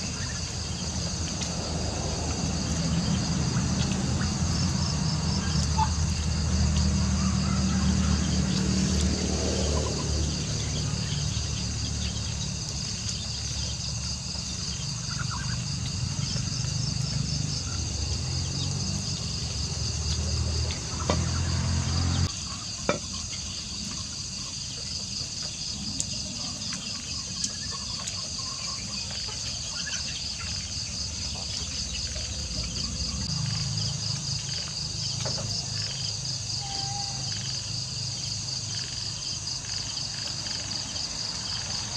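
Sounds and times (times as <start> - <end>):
crickets chirring: 0.0 - 41.9.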